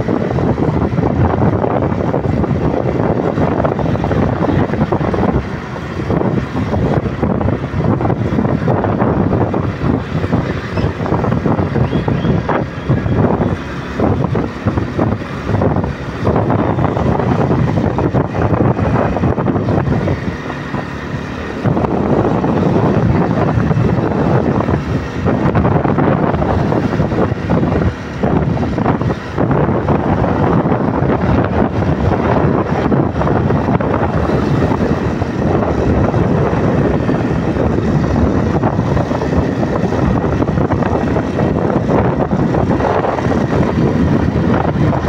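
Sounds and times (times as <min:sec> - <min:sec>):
motorcycle engine running: 0:00.0 - 0:45.0
road noise: 0:00.0 - 0:45.0
wind buffeting microphone: 0:00.0 - 0:45.0.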